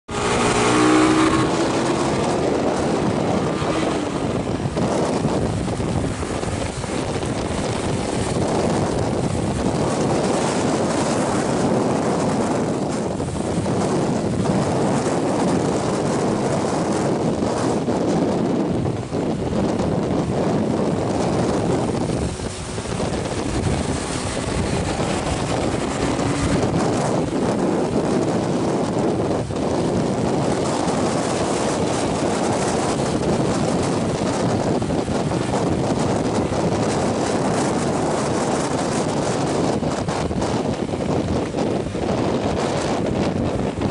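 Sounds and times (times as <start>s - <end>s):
wind rushing over microphone: 0.0s - 43.9s
motorcycle engine running: 0.1s - 43.9s.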